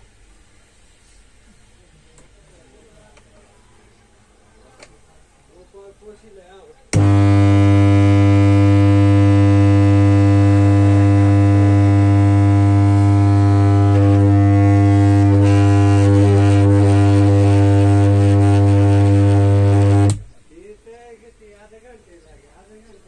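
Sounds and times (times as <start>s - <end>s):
speaker hum: 0.0s - 23.0s.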